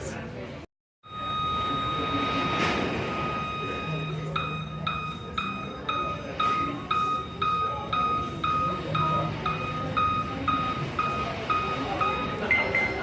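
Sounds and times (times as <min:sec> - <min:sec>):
car warning chime beeping: 0:01.0 - 0:13.0.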